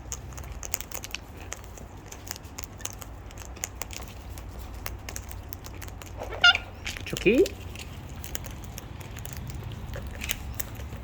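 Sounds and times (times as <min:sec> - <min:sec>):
birds pecking and cracking seeds: 0:00.0 - 0:11.0.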